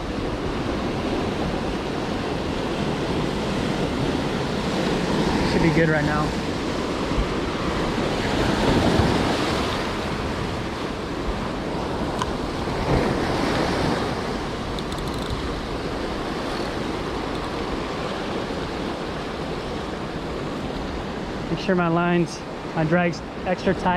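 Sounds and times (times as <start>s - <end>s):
wind on microphone: 0.0s - 21.5s
ocean waves breaking on rocks: 0.0s - 23.9s.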